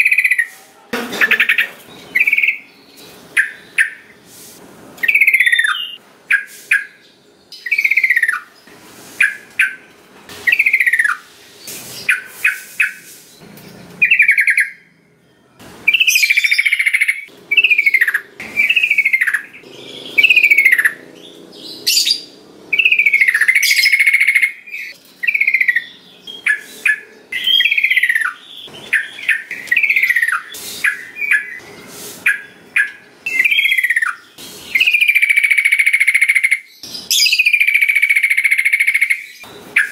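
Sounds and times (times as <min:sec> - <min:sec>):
bird song with whistled notes: 0:01.9 - 0:04.1, 0:05.0 - 0:09.8, 0:10.4 - 0:39.9.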